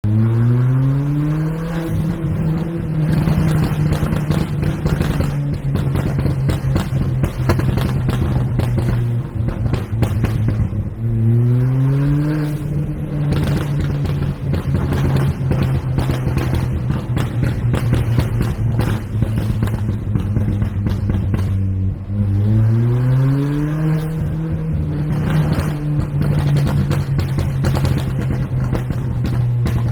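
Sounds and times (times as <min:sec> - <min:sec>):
car engine accelerating: 0:00.0 - 0:29.9
exhaust crackles and pops: 0:00.0 - 0:29.9.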